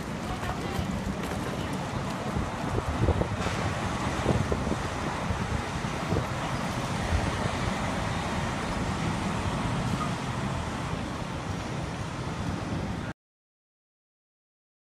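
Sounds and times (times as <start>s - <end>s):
wind buffeting microphone: 0.0s - 13.1s
city traffic rumble and hiss: 0.0s - 13.2s.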